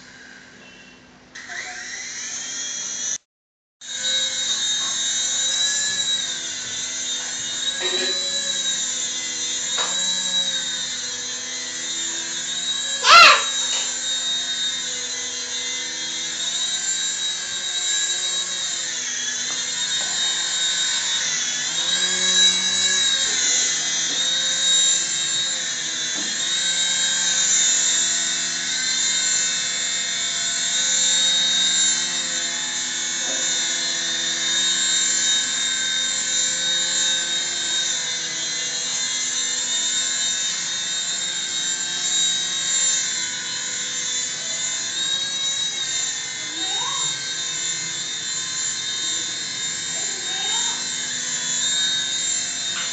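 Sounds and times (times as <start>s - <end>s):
toy helicopter rotor whine: 0.0s - 3.2s, 3.8s - 52.9s.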